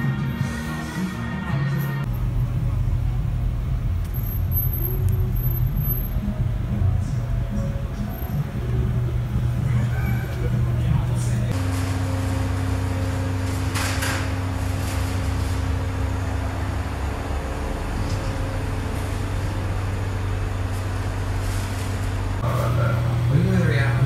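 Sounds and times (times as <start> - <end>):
low machine hum: 2.0 - 24.0.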